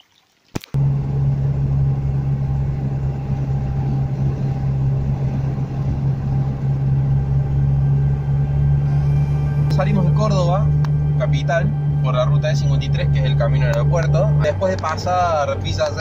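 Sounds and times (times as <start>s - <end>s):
car engine and road drone: 0.8s - 16.0s.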